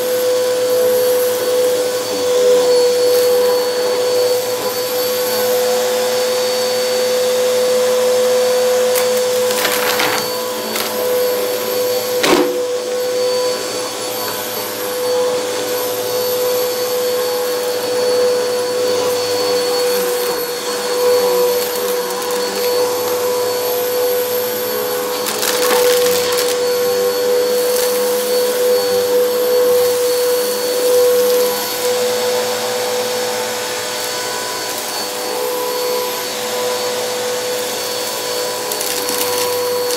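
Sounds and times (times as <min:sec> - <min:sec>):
vacuum cleaner whining on carpet: 0:00.0 - 0:39.9.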